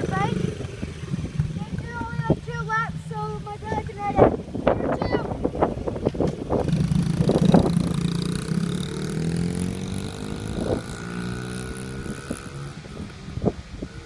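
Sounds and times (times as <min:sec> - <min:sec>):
dirt bike engine running: 0:00.0 - 0:04.4, 0:06.4 - 0:14.0
wind on microphone: 0:00.0 - 0:14.0.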